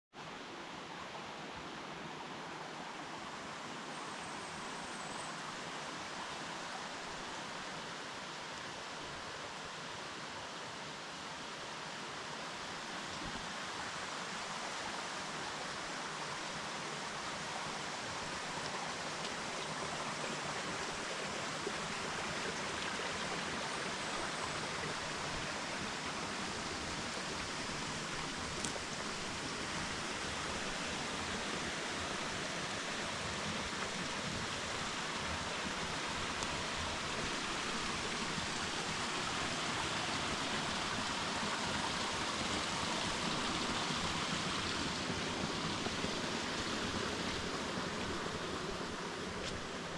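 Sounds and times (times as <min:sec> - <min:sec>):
stream water rushing: 0:00.2 - 0:49.9.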